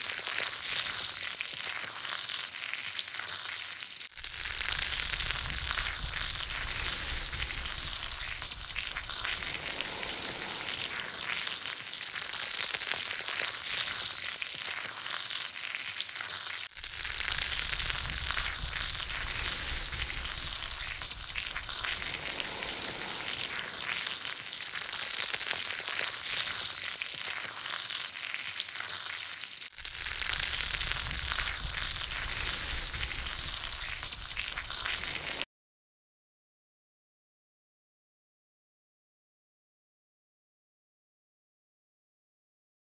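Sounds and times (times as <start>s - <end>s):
meat sizzling on charcoal grill: 0.0s - 35.5s.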